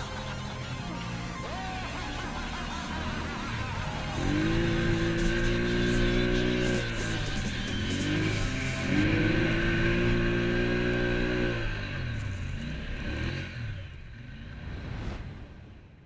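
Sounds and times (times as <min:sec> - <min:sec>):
atv engine revving: 0:01.5 - 0:14.5.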